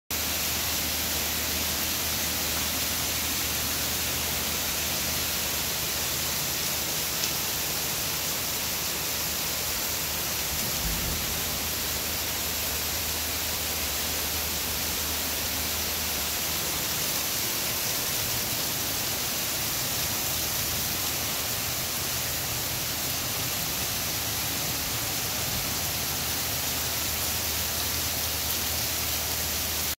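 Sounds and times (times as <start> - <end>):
heavy rain pouring: 0.1 - 30.0.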